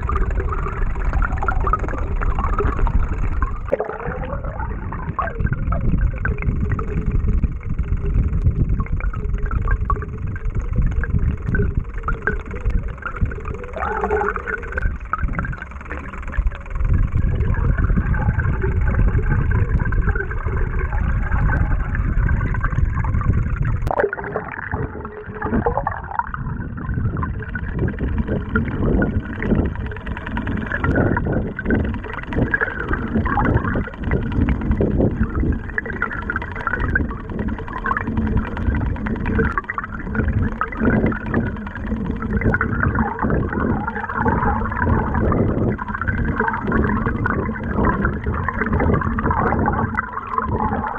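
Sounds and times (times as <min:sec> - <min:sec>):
underwater blade buzzing: 0:00.0 - 0:50.9.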